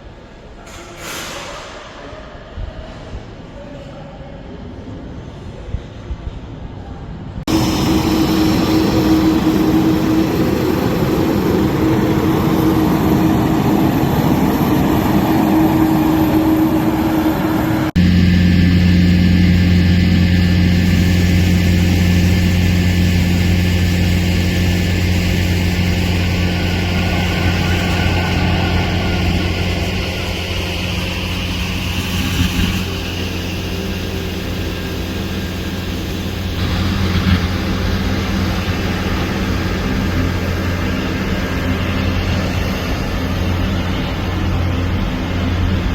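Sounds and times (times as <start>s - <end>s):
airliner engines rushing: 4.5s - 45.9s
low engine drone: 7.4s - 45.9s.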